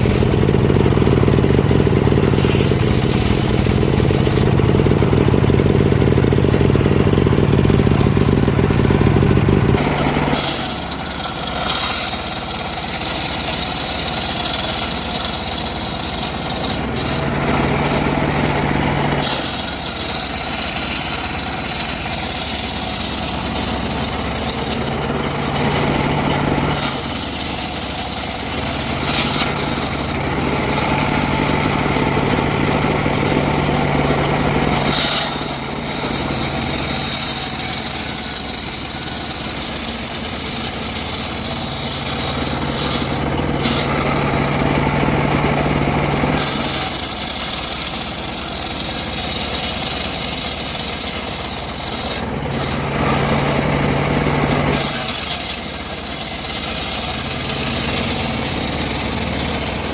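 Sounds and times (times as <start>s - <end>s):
engine saw running: 0.0s - 59.9s
saw rasping through wood: 0.0s - 59.9s.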